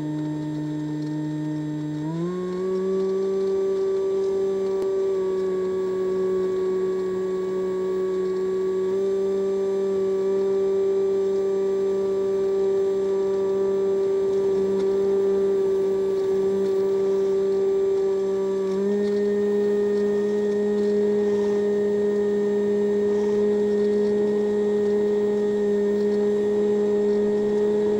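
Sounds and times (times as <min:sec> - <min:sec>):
electric motor and propeller drone: 0:00.0 - 0:27.9.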